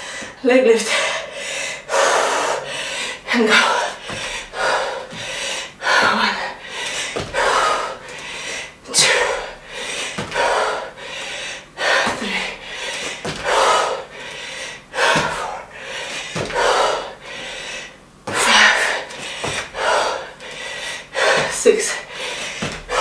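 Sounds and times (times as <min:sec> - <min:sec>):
woman breathing hard: 0:00.0 - 0:23.0.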